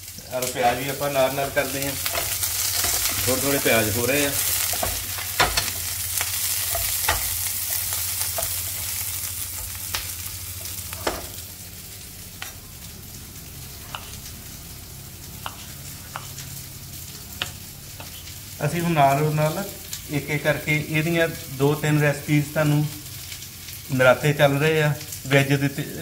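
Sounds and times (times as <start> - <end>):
onions sizzling in a pan: 0.0 - 26.0.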